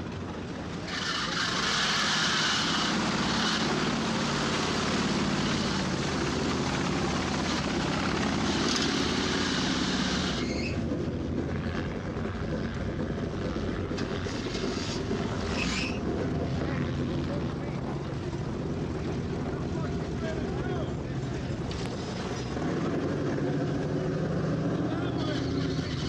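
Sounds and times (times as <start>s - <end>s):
truck engine revving: 0.0s - 26.0s
wheels spinning in mud: 0.0s - 26.0s.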